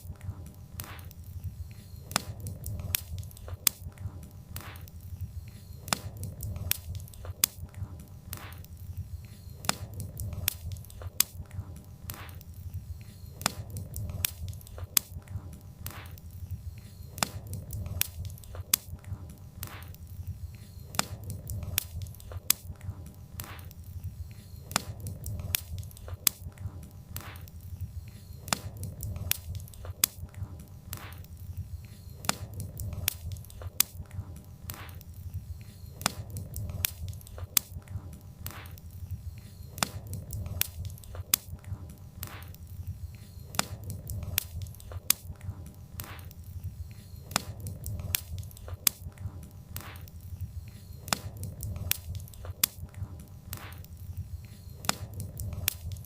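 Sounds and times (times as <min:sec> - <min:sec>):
low rumble of burning logs: 0:00.0 - 0:56.0
wood fire crackling: 0:00.0 - 0:56.0.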